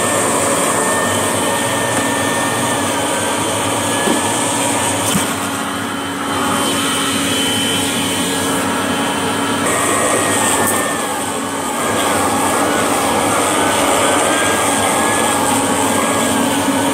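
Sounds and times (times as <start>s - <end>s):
vacuum cleaner motor running: 0.0s - 16.9s.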